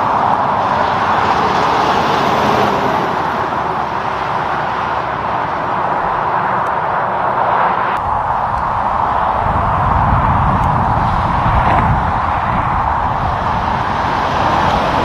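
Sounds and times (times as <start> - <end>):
car tyres hissing on road: 0.0 - 15.0.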